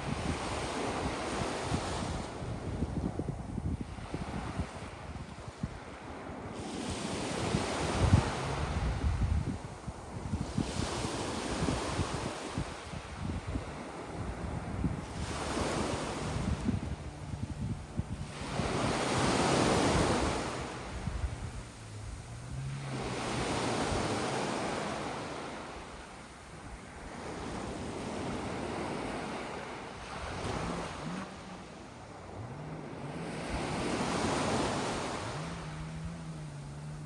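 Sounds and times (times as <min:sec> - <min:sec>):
sea waves breaking on shore: 0:00.0 - 0:37.0
wind buffeting microphone: 0:00.0 - 0:37.0.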